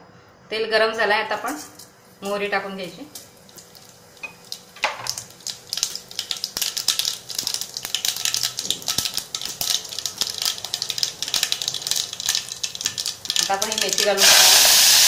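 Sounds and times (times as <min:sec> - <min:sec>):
seeds popping in hot oil: 0:01.5 - 0:15.0.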